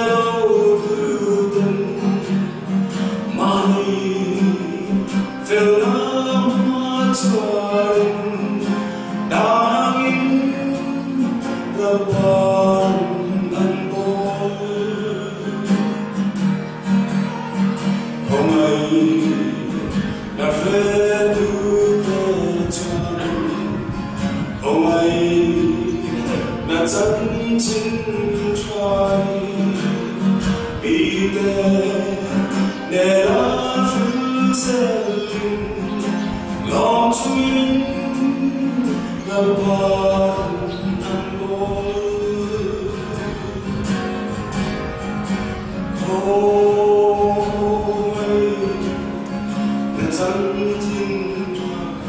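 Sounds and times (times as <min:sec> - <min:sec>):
acoustic guitar: 0:00.0 - 0:52.0
man singing slow song: 0:00.0 - 0:52.0.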